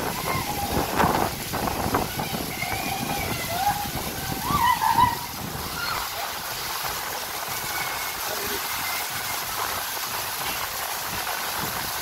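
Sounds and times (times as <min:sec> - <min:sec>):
water running: 0:00.0 - 0:12.0
wind buffeting microphone: 0:00.0 - 0:12.0.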